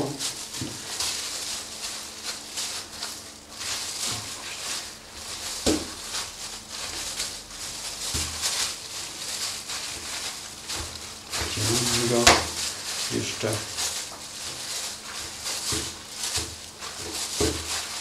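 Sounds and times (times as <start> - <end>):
plastic gloves rustling: 0.0 - 18.0.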